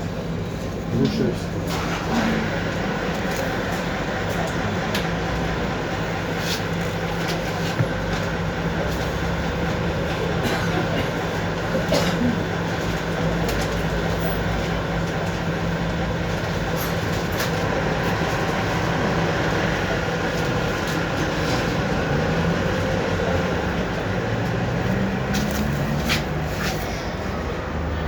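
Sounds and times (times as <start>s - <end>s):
tram rumbling along track: 0.0s - 28.0s.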